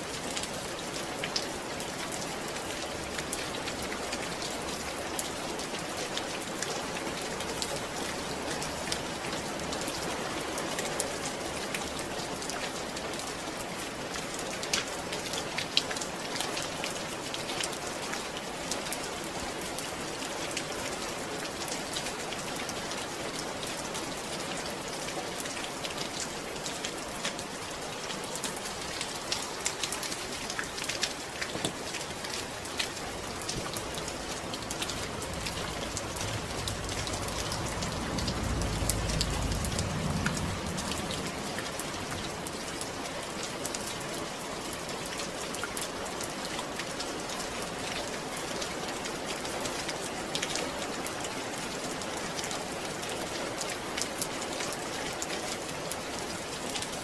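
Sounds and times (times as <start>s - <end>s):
rain drops ticking on surface: 0.0s - 57.0s.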